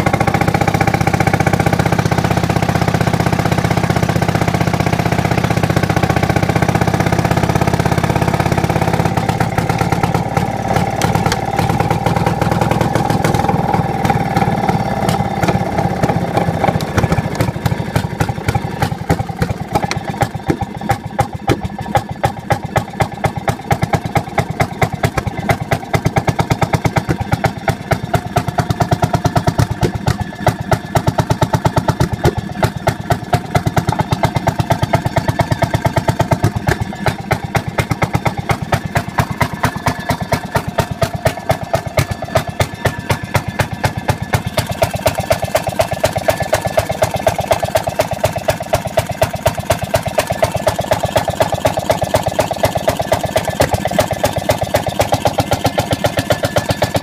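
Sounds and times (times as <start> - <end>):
motorcar engine idling: 0.0 - 57.0.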